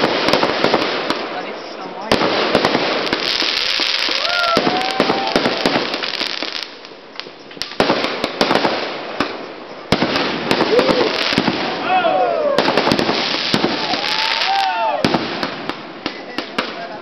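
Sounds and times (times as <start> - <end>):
firework whistling: 0.0 - 17.0
fireworks bangs and crackling: 0.0 - 17.0
steady hiss: 0.0 - 17.0.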